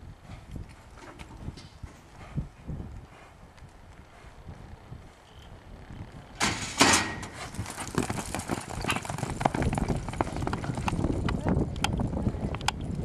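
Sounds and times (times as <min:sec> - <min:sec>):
horse hooves striking ground: 0:00.0 - 0:13.0.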